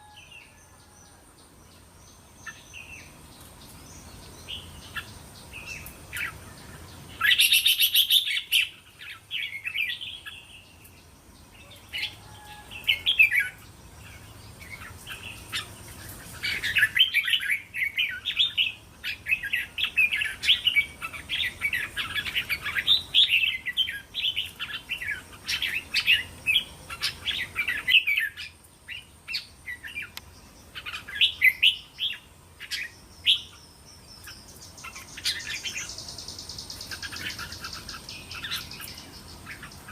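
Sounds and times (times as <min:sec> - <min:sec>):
birds singing and chattering: 0:00.0 - 0:39.9.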